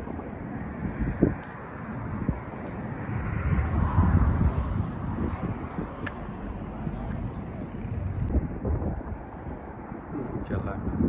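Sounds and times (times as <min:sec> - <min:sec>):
vehicle rumbling on road: 0:00.0 - 0:11.0.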